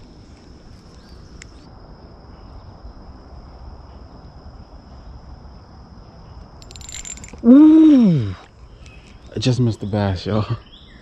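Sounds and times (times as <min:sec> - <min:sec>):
insects calling high tone: 0:00.0 - 0:11.0.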